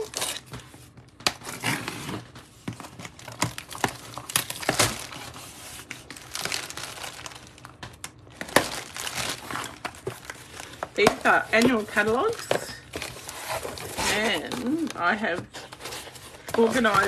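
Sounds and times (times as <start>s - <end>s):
cardboard flaps rustling and crackling: 0.0s - 17.0s.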